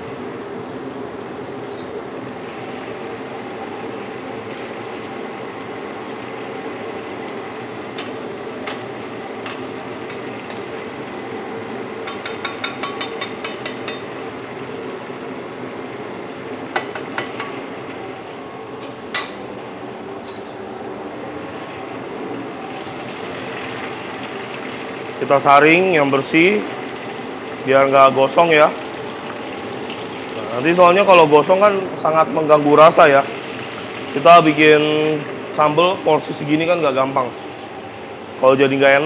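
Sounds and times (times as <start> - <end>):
oil sizzling: 0.0 - 38.4.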